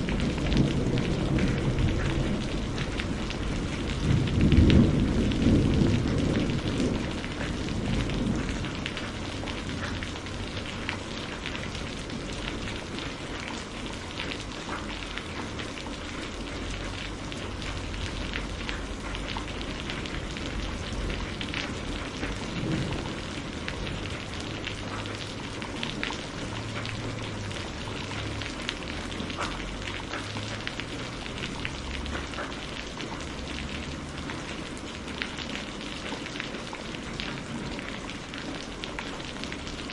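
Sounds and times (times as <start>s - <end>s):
steady rain falling: 0.0s - 39.9s
thunder rumble: 0.0s - 39.9s.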